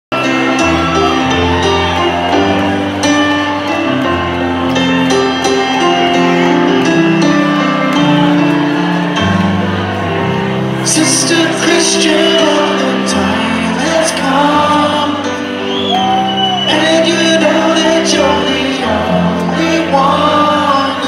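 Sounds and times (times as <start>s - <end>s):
keyboard chords: 0.1s - 21.0s.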